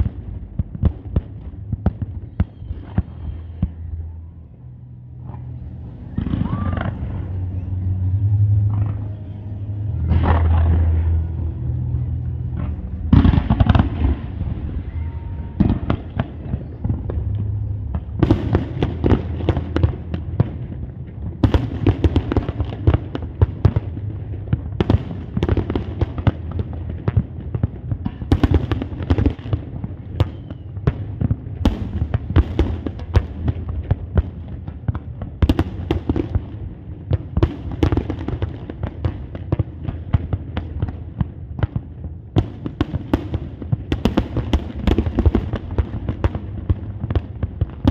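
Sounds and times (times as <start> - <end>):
fireworks bangs and crackles: 0.0 - 47.9
low rumble: 0.0 - 47.9.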